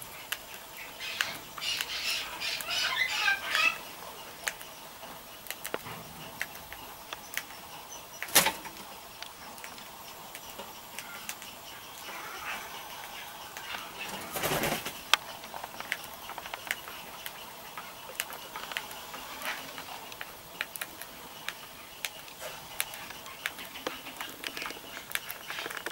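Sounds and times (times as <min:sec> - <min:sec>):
birds pecking seed clicks: 0:00.0 - 0:25.9
wing flapping: 0:00.0 - 0:25.9
faint bird calls: 0:00.1 - 0:25.9.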